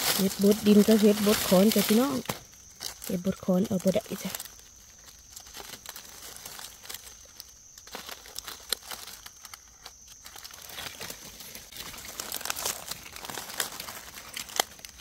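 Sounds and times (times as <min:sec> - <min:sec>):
dry leaves crackling and rustling: 0:00.0 - 0:15.0.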